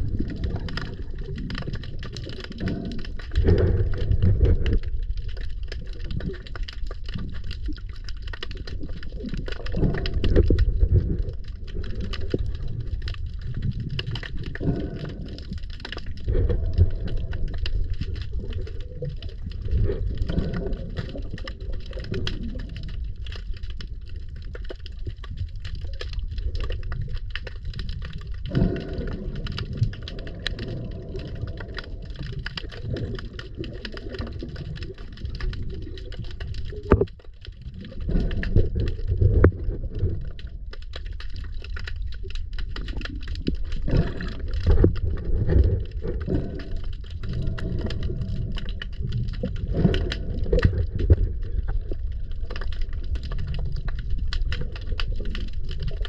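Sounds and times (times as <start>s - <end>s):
small crackling clicks: 0.0s - 56.0s
underwater low rumble: 0.0s - 56.0s
water bubbling: 0.0s - 56.0s.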